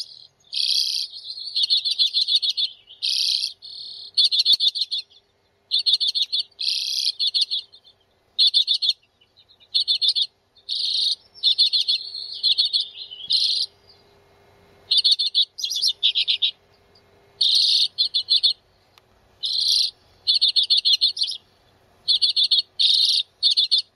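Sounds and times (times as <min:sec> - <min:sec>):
birds chattering calls: 0:00.0 - 0:23.9.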